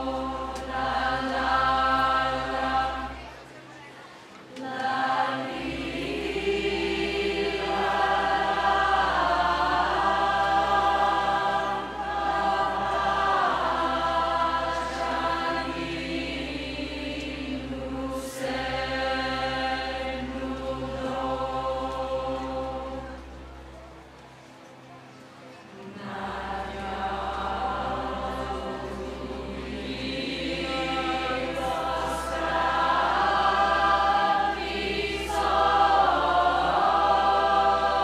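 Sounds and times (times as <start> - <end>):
large choir singing: 0.0 - 24.4, 25.4 - 38.0.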